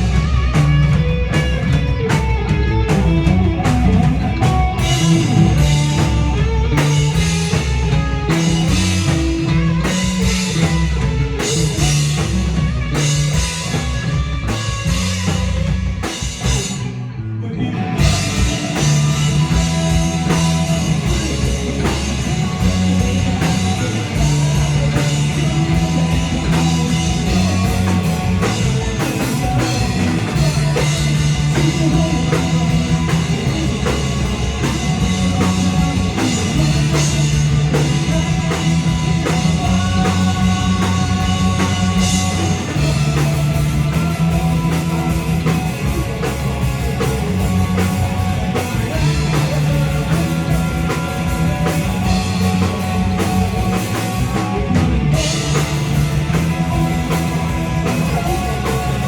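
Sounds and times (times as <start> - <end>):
continuous drumming: 0.0 - 17.1, 17.8 - 59.0
bass line: 0.0 - 59.0
live rock band playing: 0.0 - 59.0.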